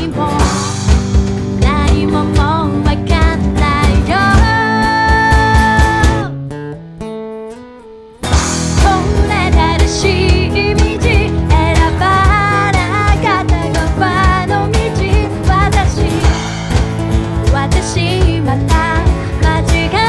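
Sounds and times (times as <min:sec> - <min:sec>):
lead singer singing: 0:00.0 - 0:06.4, 0:08.4 - 0:20.0
pop-rock band playing: 0:00.0 - 0:06.4, 0:08.2 - 0:20.0.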